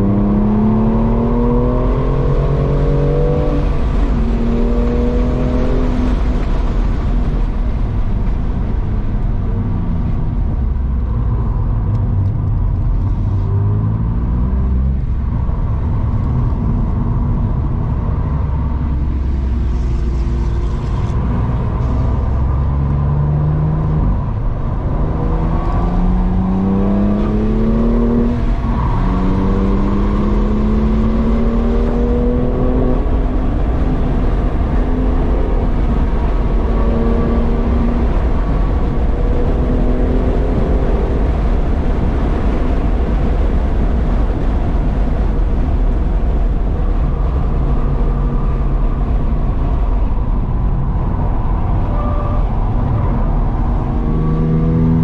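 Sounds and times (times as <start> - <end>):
car engine accelerating: 0.0 - 55.0
road and tyre rumble: 0.0 - 55.0.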